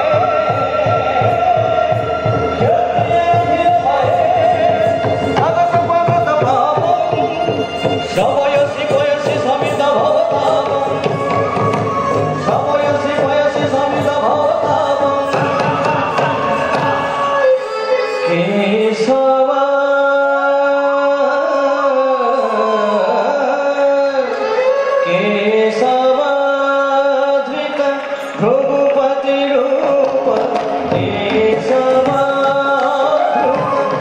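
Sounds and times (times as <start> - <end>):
sung melody with accompaniment: 0.0 - 34.0.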